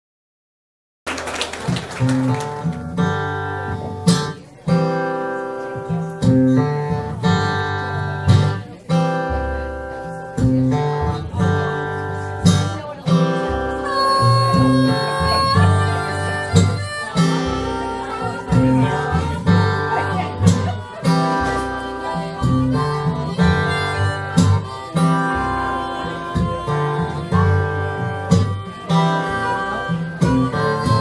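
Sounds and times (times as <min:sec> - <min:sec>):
acoustic guitar riff: 0:01.2 - 0:31.0
harmonica bent notes: 0:02.4 - 0:31.0.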